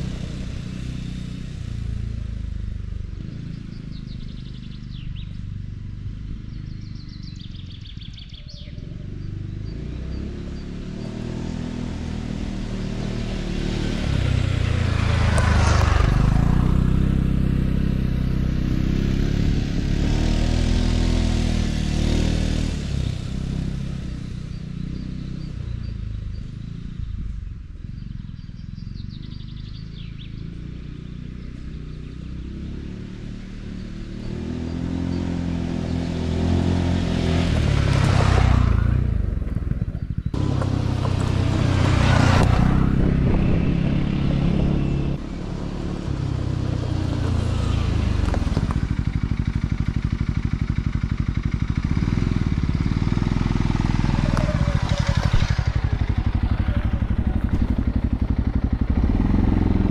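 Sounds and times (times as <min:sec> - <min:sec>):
atv engine pulling away: 0:00.0 - 0:59.9.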